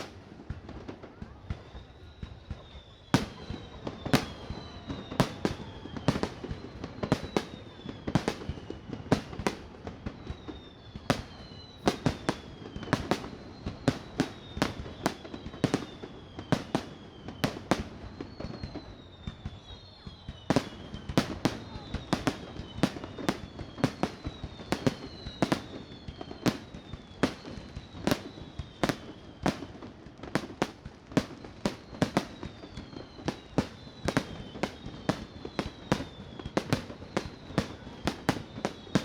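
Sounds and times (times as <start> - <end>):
firework bangs: 0.0 - 1.7, 2.4 - 39.0
firework whistles sliding down: 1.4 - 39.0.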